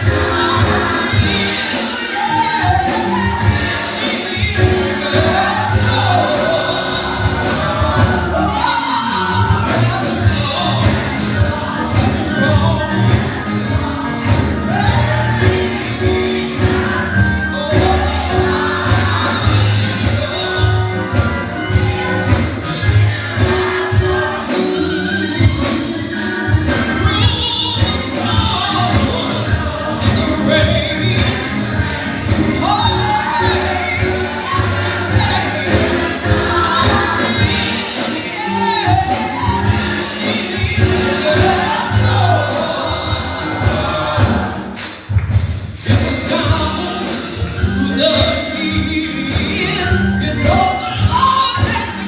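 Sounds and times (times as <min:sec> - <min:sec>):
band playing over a beat: 0:00.0 - 0:52.0
gospel choir singing: 0:00.0 - 0:52.0.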